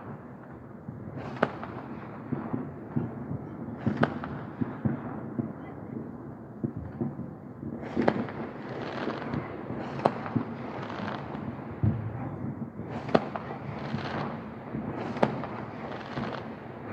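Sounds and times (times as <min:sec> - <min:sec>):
fireworks crackling: 0:00.0 - 0:05.6, 0:06.6 - 0:16.9
fireworks bangs: 0:00.0 - 0:16.9.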